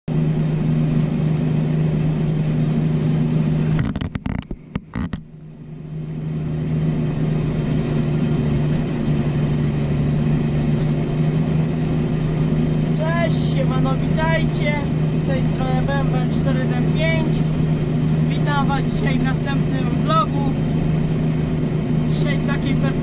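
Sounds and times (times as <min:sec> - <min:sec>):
tractor diesel engine drone: 0:00.1 - 0:23.0.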